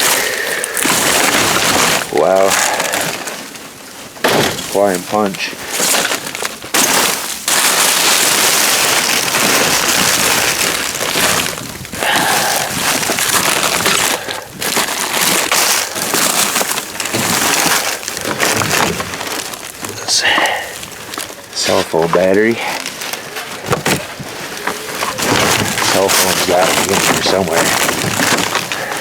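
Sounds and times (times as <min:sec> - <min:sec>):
plastic bags and trash rustling: 0:00.0 - 0:29.0.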